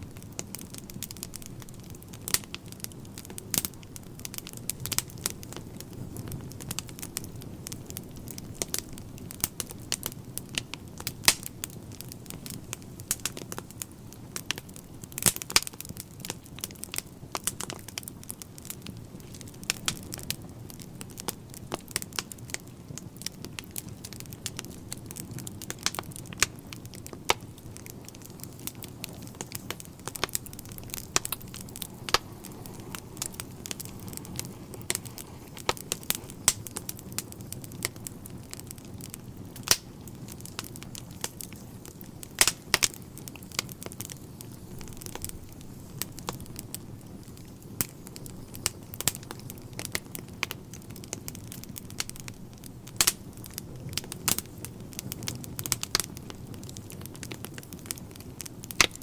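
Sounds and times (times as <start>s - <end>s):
burning logs popping and crackling: 0.0s - 59.0s
low rumble of flames: 0.0s - 59.0s.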